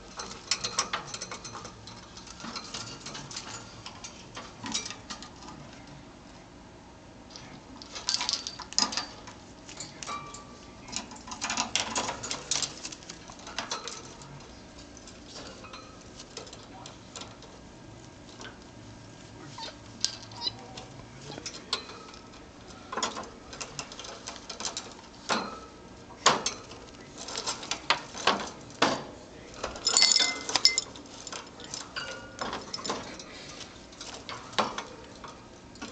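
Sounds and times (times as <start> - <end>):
bird pecking and shaking a toy: 0.0 - 5.8, 7.7 - 18.8, 19.6 - 35.9.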